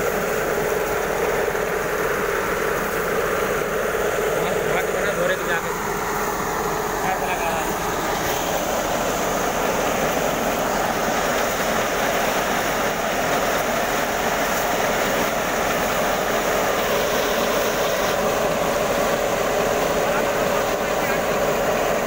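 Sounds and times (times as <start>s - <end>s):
threshing machine running: 0.0s - 22.0s.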